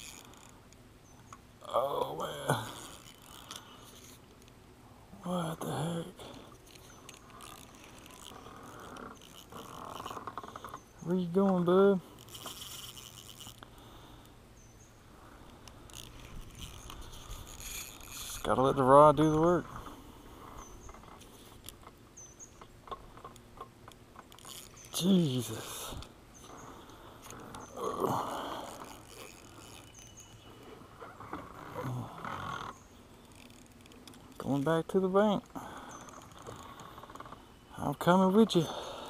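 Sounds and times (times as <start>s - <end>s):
fishing reel drag buzzing: 0.0s - 4.5s, 5.3s - 23.2s, 24.1s - 34.6s, 35.4s - 39.0s.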